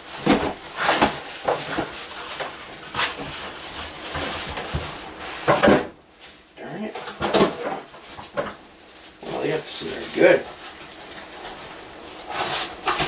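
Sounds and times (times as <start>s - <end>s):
cardboard packaging rustling: 0.0s - 13.0s
plastic wrapping crinkling: 0.0s - 13.0s
sharp crackles and knocks: 0.0s - 13.0s.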